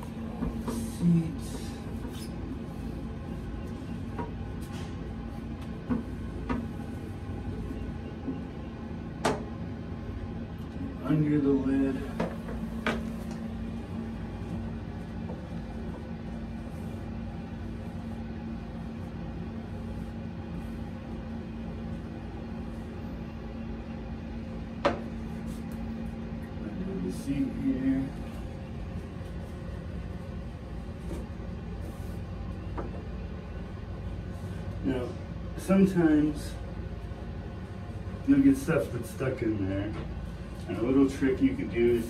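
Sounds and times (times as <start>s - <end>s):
machine hum: 0.0s - 42.0s.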